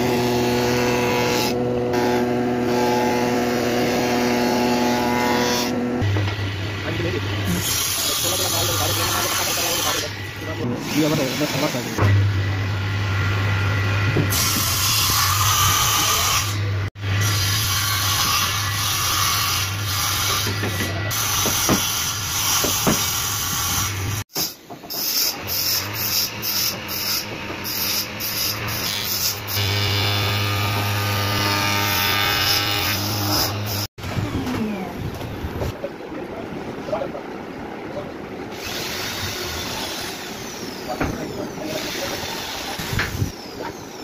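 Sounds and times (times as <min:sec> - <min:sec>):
woodworking machinery humming: 0:00.0 - 0:17.3, 0:17.9 - 0:44.0.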